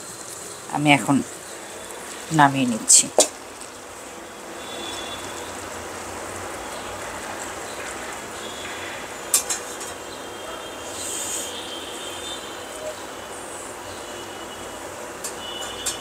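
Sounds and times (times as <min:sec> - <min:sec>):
hot sugar syrup hissing: 0:00.0 - 0:16.0.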